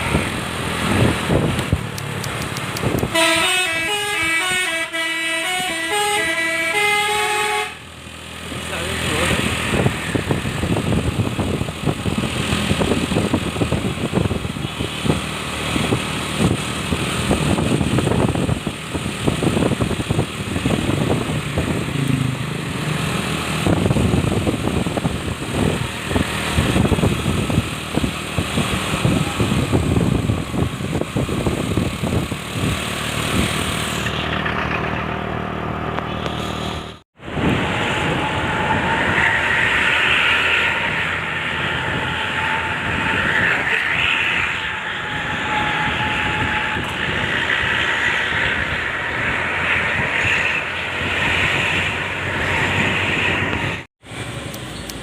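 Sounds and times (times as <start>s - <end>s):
road traffic noise: 0.0s - 55.0s
truck engine running: 0.0s - 55.0s.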